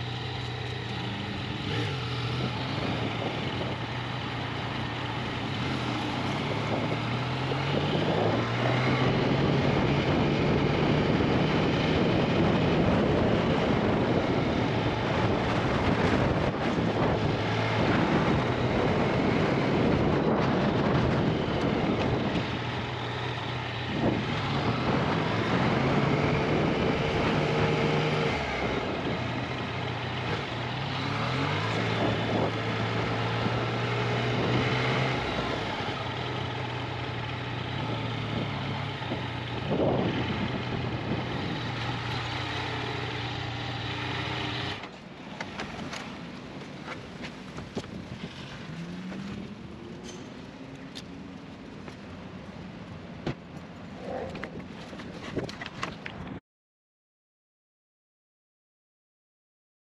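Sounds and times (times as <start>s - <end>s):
motorcycle engine at low speed: 0.0s - 56.4s
wind and road noise: 0.0s - 56.4s.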